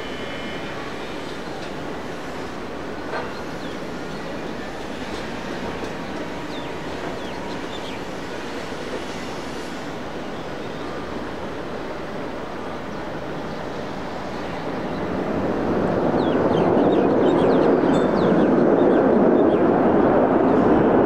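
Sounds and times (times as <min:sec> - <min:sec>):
distant jet engine roar: 0:00.0 - 0:21.0.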